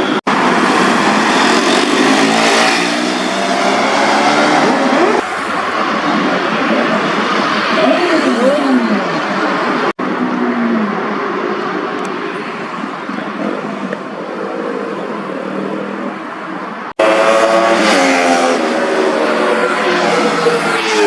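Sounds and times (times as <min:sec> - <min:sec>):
sport-bike engines revving: 0:00.0 - 0:16.3, 0:16.9 - 0:21.0.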